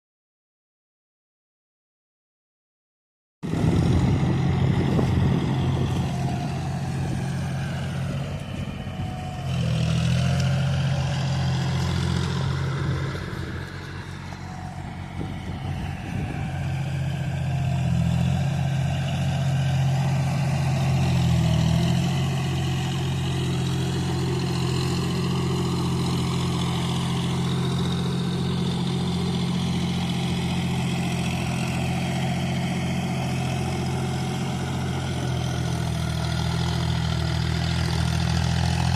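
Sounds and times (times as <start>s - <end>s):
engine low drone: 3.4s - 38.9s.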